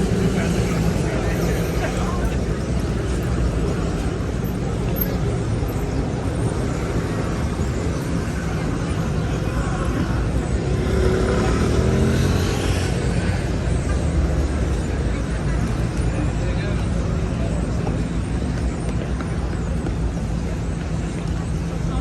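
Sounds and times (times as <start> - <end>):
passing cars: 0.0 - 22.0.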